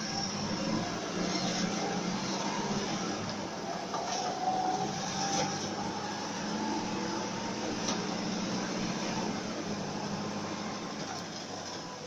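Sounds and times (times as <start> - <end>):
bus engine hum: 0.0 - 12.0
road noise: 0.0 - 12.0.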